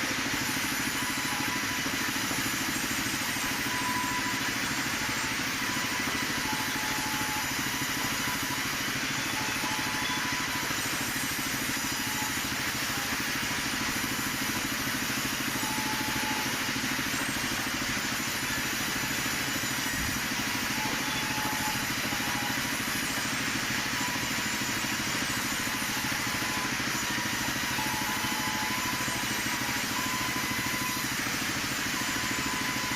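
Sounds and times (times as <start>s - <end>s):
cutting machine running: 0.0s - 32.9s.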